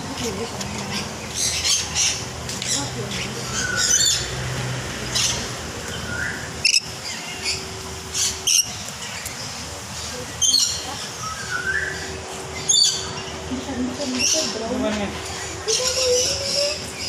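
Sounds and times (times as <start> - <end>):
parrots squawking and chirping: 0.2 - 17.0.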